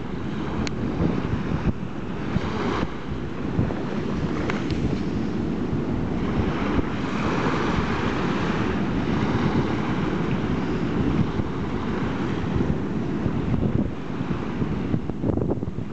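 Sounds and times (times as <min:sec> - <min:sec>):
small waves washing: 0:00.0 - 0:15.9
wind buffeting microphone: 0:00.0 - 0:15.9.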